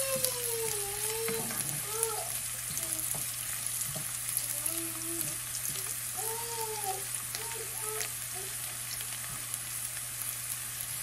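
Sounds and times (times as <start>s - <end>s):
spatula stirring in pan: 0.0s - 9.9s
garlic sizzling in hot oil: 0.0s - 11.0s.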